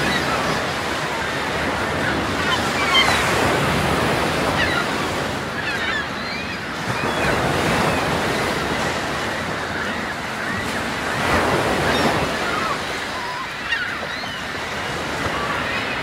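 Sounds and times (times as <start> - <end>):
sea waves and wind: 0.0 - 16.0
seabirds calling: 0.0 - 16.0.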